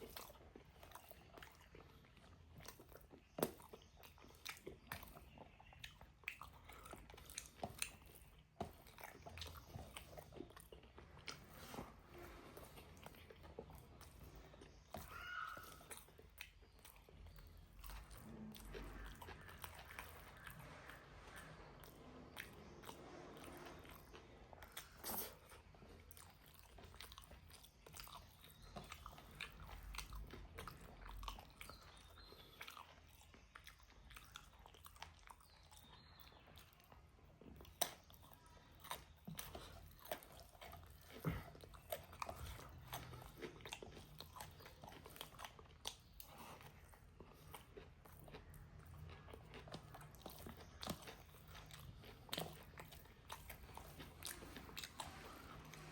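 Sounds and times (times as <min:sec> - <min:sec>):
person chewing: 0:00.0 - 0:55.9.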